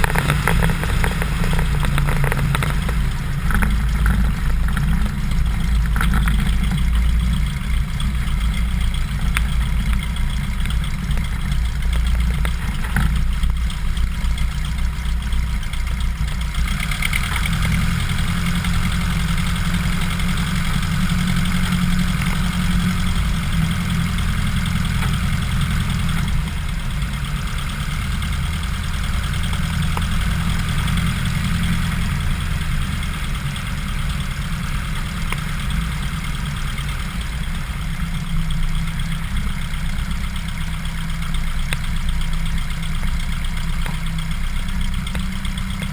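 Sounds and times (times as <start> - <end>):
aircraft engine low drone: 0.0 - 45.9.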